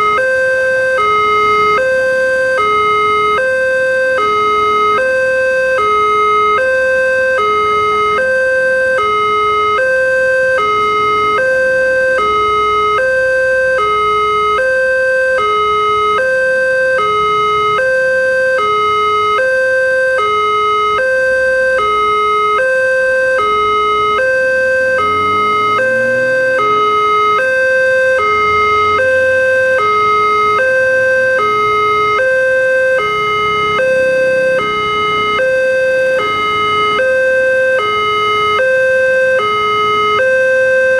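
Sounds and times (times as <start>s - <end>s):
two-tone crossing alarm: 0.0s - 40.9s.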